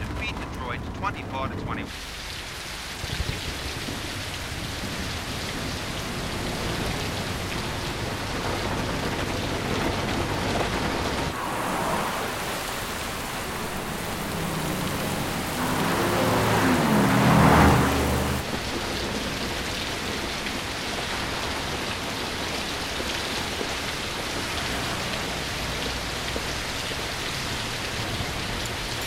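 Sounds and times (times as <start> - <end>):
heavy rain on wet road: 0.0 - 29.0
vehicle approaching on wet road: 0.0 - 29.0.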